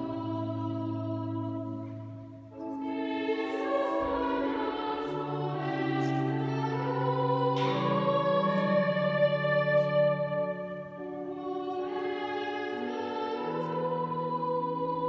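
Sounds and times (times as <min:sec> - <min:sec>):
long reverberant music notes: 0:00.0 - 0:15.0.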